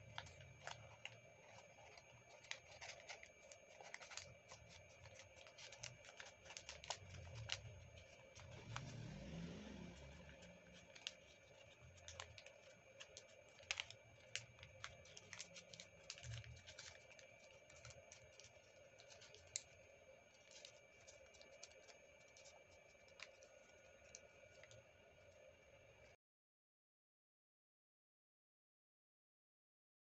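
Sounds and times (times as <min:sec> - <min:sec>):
paper crinkling as it is folded: 0:00.0 - 0:25.4
faint steady hum: 0:00.0 - 0:26.2.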